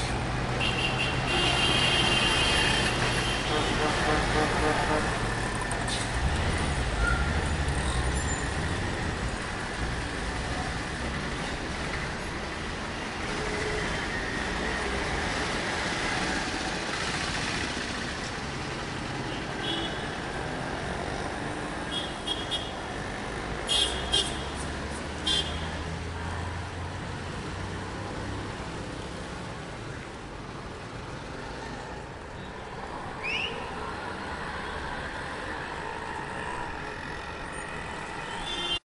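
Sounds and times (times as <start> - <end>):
passing cars and trucks: 0.0 - 38.8.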